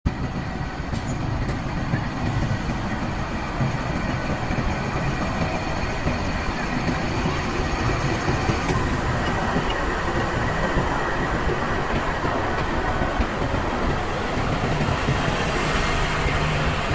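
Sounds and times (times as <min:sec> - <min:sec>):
passenger train rumbling: 0:00.1 - 0:16.9.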